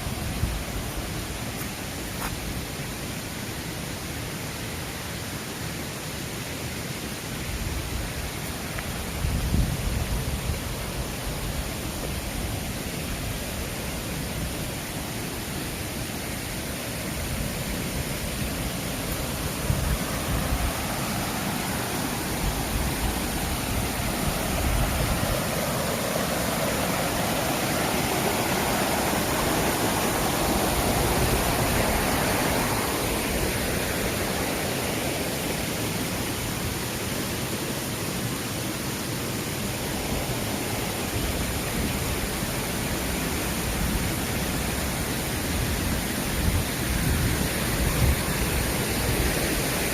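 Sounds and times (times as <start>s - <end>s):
mountain stream rushing: 0.0s - 49.9s.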